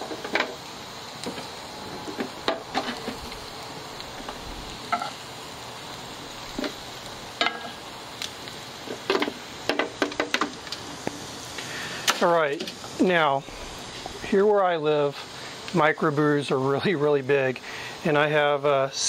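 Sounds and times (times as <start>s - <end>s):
onions sizzling in a skillet: 0.0s - 19.0s.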